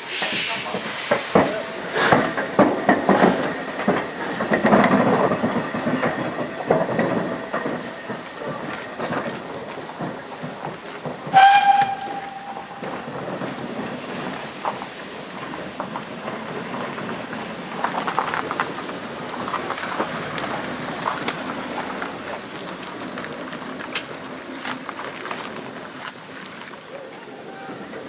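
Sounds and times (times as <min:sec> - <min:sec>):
train wheels clattering over rail joints: 0:00.0 - 0:26.9.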